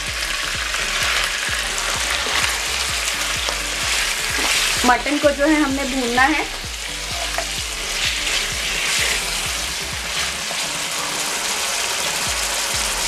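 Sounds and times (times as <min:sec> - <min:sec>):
background music with steady beat: 0:00.0 - 0:13.0
meat sizzling in a pan: 0:00.0 - 0:13.0
spatula stirring in a pan: 0:01.0 - 0:12.8.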